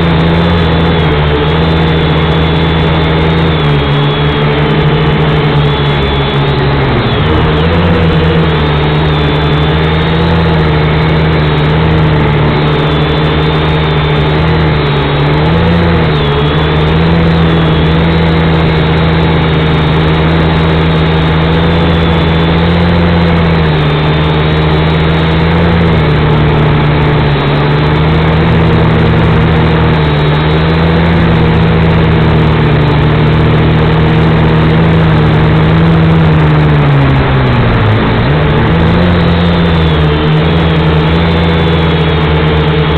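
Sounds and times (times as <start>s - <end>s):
quadcopter motors whining: 0.0s - 42.9s.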